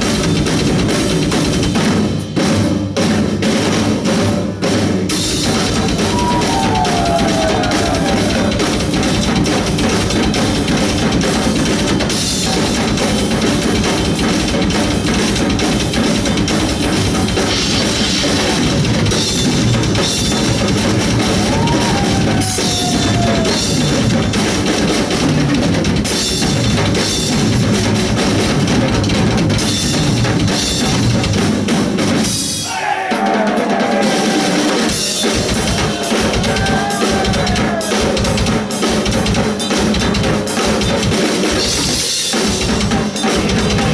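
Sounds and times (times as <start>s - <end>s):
drum kit: 0.0s - 43.9s
live rock band playing: 0.0s - 43.9s.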